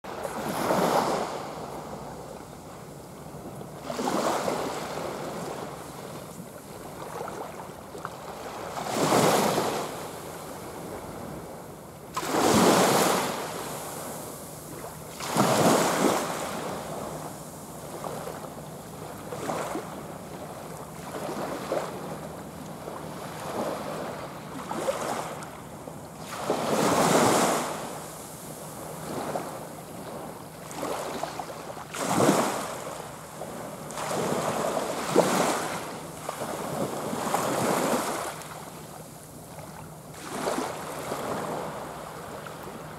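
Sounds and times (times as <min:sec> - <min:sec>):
small waves washing up beach: 0:00.1 - 0:42.9.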